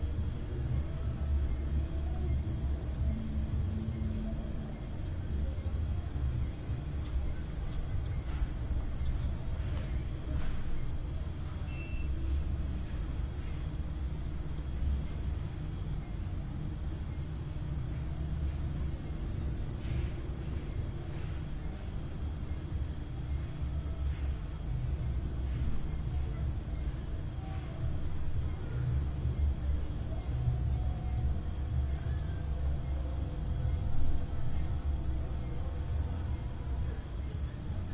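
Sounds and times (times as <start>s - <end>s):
insect chirping: 0.0s - 37.9s
low rumble of room noise: 0.0s - 37.9s.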